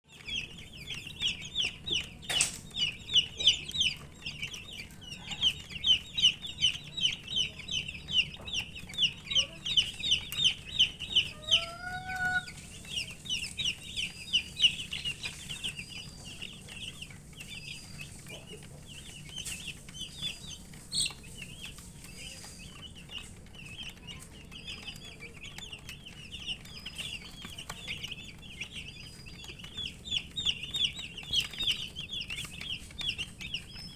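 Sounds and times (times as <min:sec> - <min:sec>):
baby chicks peeping: 0:00.0 - 0:33.9.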